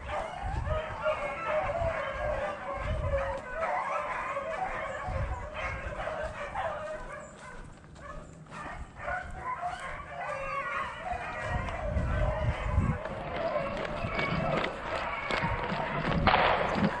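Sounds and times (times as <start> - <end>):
pack of hounds baying: 0.0 - 17.0.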